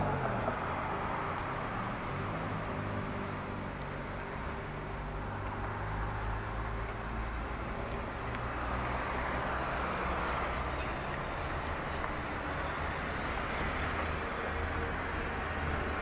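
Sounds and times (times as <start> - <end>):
bus engine drone: 0.0 - 16.0
tyre and road noise: 0.0 - 16.0.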